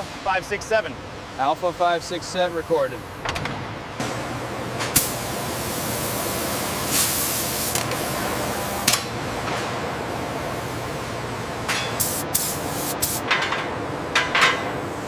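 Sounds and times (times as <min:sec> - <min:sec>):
steady hissing factory noise: 0:00.0 - 0:15.0.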